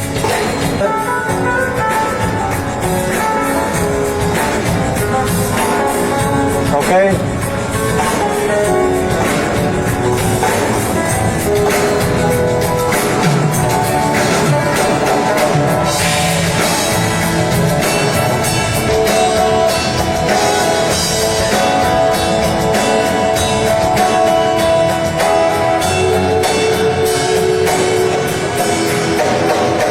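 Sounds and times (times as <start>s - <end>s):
drum kit beating: 0.0s - 29.9s
live band playing: 0.0s - 29.9s.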